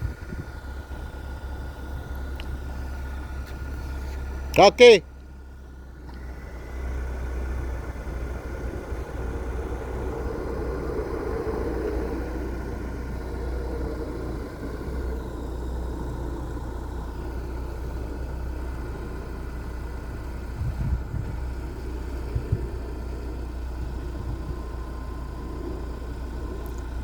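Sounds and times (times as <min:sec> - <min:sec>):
car engine rumble: 0:00.0 - 0:27.0
road noise: 0:00.0 - 0:27.0.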